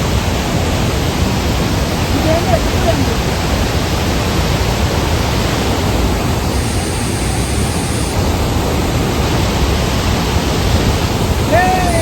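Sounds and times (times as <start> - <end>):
rushing white water: 0.0 - 12.0.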